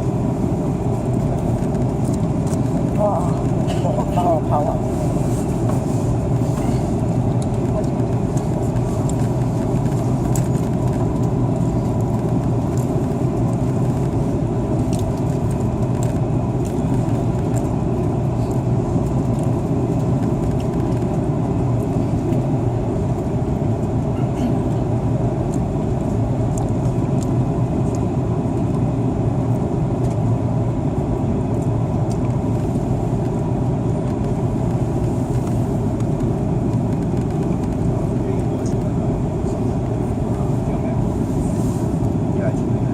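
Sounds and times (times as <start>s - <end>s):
aircraft cabin engine noise: 0.0s - 42.9s.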